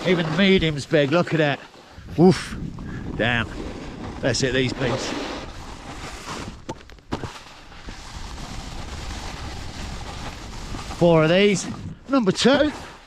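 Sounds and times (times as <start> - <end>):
snowboard rushing over snow: 0.0 - 13.0
wind: 0.0 - 13.0.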